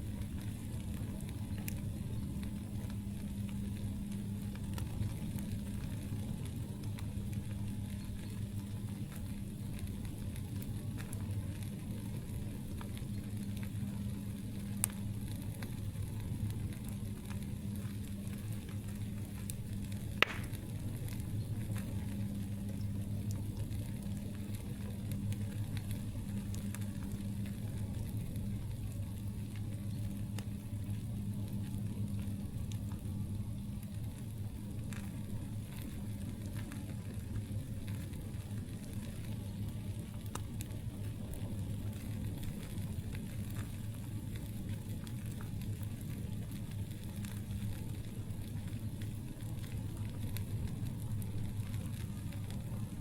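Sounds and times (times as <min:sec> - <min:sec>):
campfire crackling: 0:00.0 - 0:53.0
fire popping: 0:00.0 - 0:53.0.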